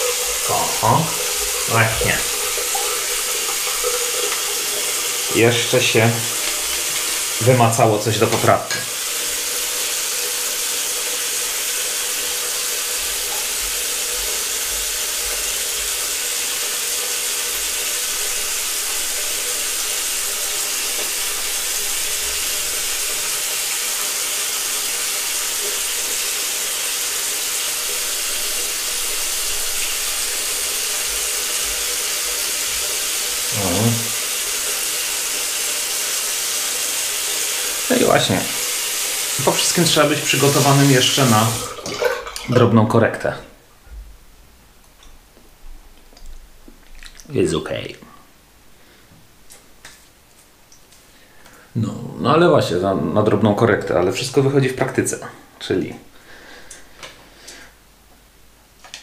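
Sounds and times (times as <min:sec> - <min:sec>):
tap water running: 0:00.0 - 0:44.1, 0:44.8 - 0:48.2, 0:48.8 - 0:58.2.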